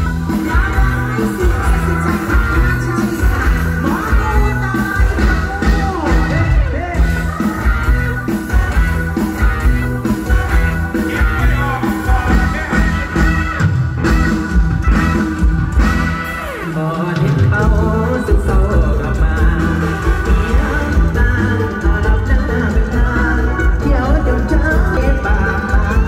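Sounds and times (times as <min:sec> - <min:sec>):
person singing: 0:00.0 - 0:13.7, 0:16.2 - 0:26.0
live band through loudspeakers: 0:00.0 - 0:26.0.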